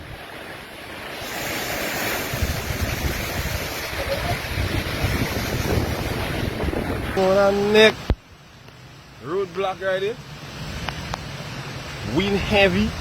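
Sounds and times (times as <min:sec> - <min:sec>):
wind buffeting microphone: 0:00.0 - 0:08.2, 0:10.4 - 0:13.0
strong storm wind: 0:00.0 - 0:09.2, 0:10.2 - 0:13.0
heavy surf: 0:00.0 - 0:13.0.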